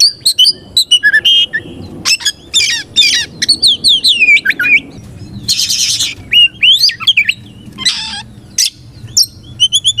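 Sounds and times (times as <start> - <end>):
bird harsh rasping calls: 0.0 - 10.0
bird whistling song: 0.0 - 10.0.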